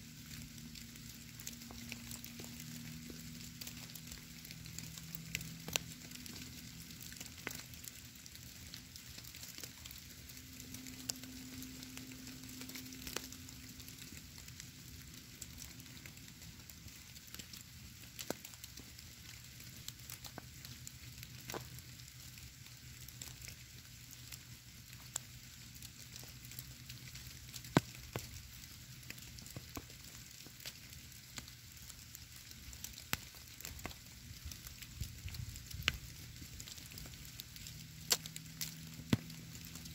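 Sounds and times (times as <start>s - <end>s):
snowflakes ticking: 0.0s - 39.9s.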